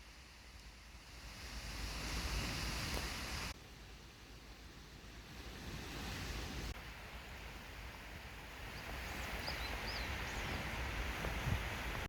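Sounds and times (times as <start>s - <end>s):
wind and surf: 0.0s - 3.6s, 4.3s - 12.0s.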